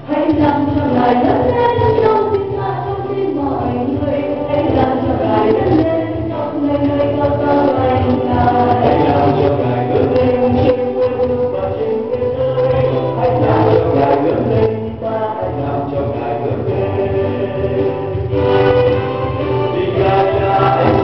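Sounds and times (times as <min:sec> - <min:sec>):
backing music: 0:00.0 - 0:21.0
group singing in chorus: 0:00.0 - 0:21.0.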